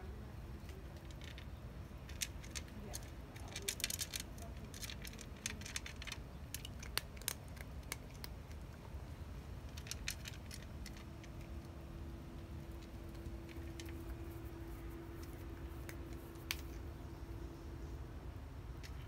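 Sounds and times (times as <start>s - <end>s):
faint steady hum: 0.0s - 19.0s
cat crunching dry kibble: 0.8s - 8.9s, 9.6s - 17.0s.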